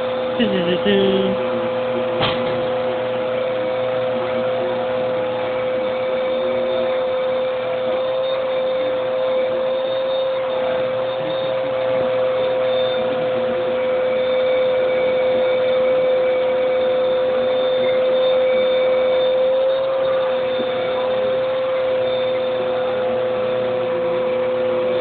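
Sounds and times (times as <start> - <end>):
motor hum: 0.0 - 25.0.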